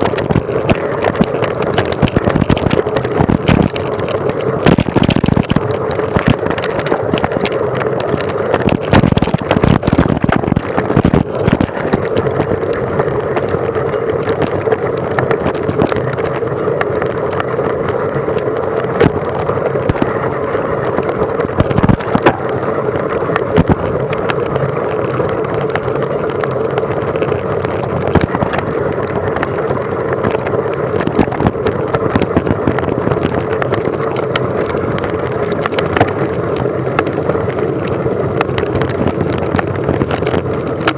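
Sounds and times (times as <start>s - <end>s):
steady ride rumble: 0.0s - 40.9s.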